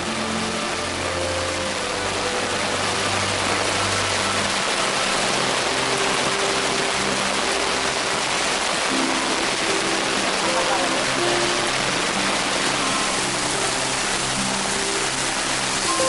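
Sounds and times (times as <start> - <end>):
rushing water: 0.0 - 16.0
soft background music: 0.0 - 16.0.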